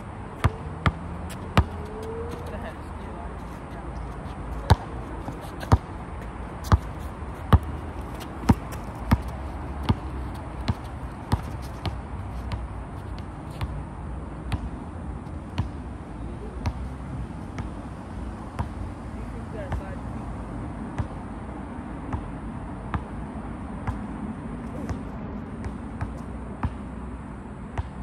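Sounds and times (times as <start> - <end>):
basketball bouncing on asphalt: 0.0 - 13.8, 14.4 - 14.8, 15.4 - 15.9, 16.6 - 16.9, 17.5 - 17.8, 18.4 - 20.0, 20.8 - 21.2, 21.9 - 27.1, 27.7 - 28.0.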